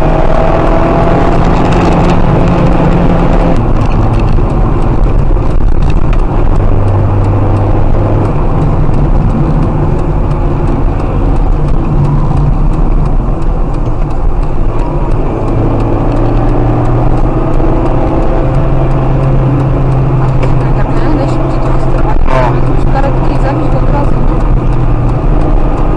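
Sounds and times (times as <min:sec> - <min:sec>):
car engine at speed: 0:00.0 - 0:25.9.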